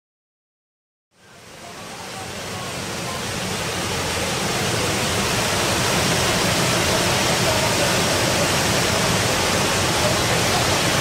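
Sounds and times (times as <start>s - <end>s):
small waterfall rushing: 1.1s - 11.0s.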